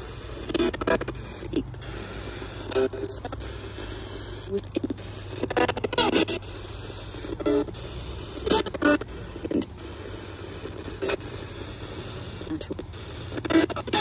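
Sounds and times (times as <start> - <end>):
chopped broadcast voice fragments: 0.0 - 14.0
radio static hiss: 0.0 - 14.0.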